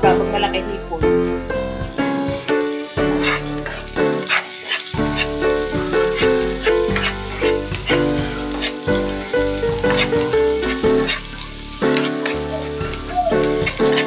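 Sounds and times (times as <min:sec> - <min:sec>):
background music with bass line: 0:00.0 - 0:14.0
onions sizzling in a pan: 0:00.0 - 0:14.0.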